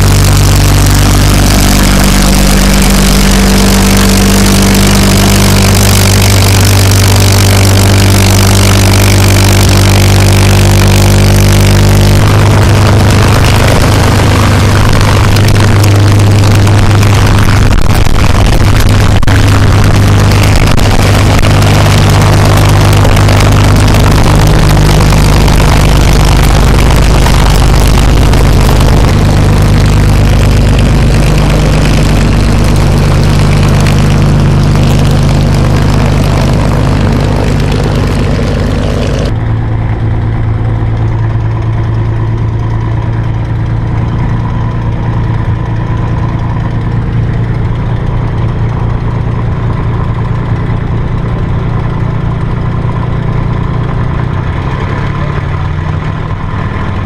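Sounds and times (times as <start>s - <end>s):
aircraft engine droning: 0.0s - 57.0s.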